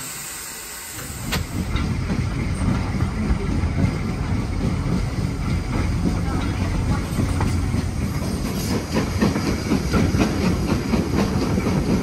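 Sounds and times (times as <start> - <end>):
steam locomotive hissing: 0.0 - 12.0
train clattering along rails: 0.2 - 12.0.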